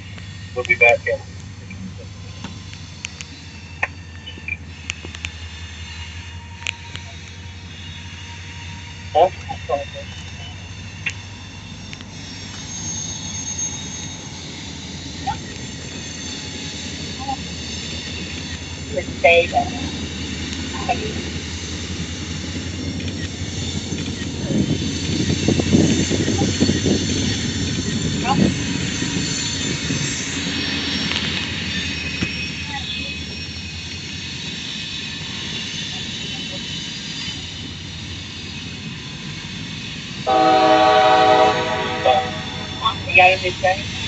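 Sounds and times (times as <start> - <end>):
sharp clicks of train: 0.0 - 8.6, 9.3 - 44.0
freight train rumbling by: 0.0 - 44.0.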